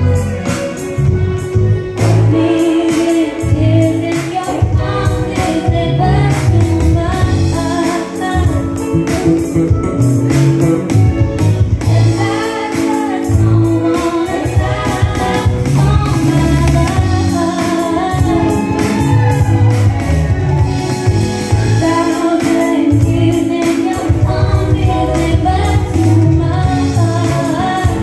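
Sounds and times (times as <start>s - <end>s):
electric bass: 0.0s - 28.0s
woman singing into microphone: 2.0s - 9.5s, 11.8s - 20.6s, 21.4s - 28.0s.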